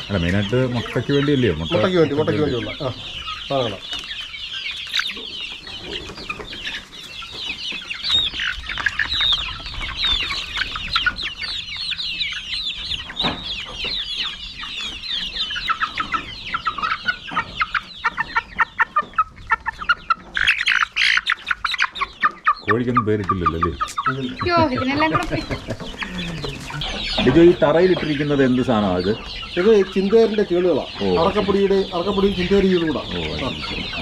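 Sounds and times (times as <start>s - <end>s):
young chickens cheeping: 0.0s - 34.0s.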